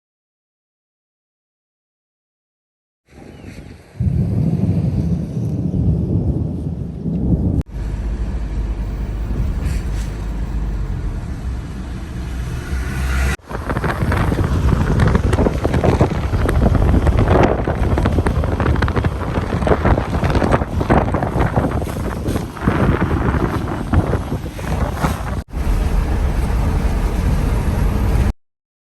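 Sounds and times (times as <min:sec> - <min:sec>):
wind buffeting microphone: 0:03.1 - 0:07.7, 0:08.8 - 0:28.3.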